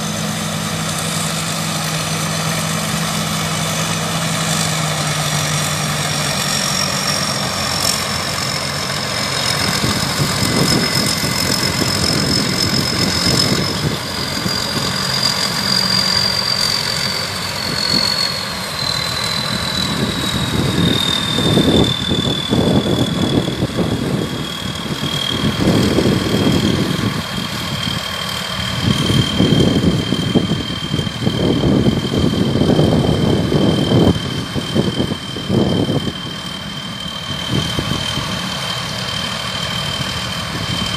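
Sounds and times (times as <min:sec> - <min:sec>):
combine harvester droning: 0:00.0 - 0:40.9
high machine whine: 0:00.0 - 0:40.9.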